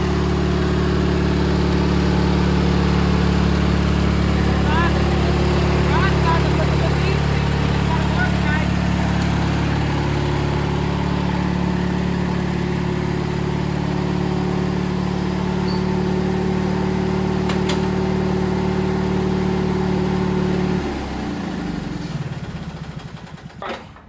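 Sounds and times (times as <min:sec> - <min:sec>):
riding lawn mower engine: 0:00.0 - 0:24.0.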